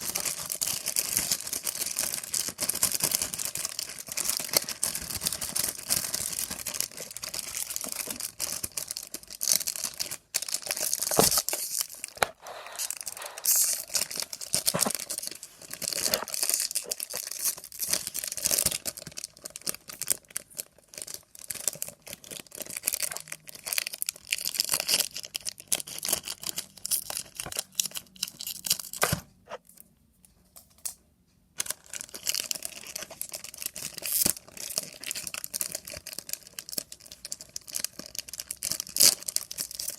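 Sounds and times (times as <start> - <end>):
wrapper tearing and crinkling: 0.0 - 29.1, 31.6 - 39.9.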